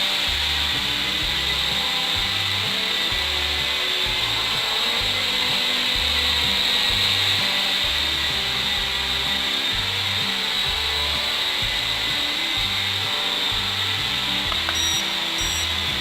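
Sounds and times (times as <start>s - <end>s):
background music with bass: 0.0s - 16.0s
electric motor whine: 0.0s - 16.0s.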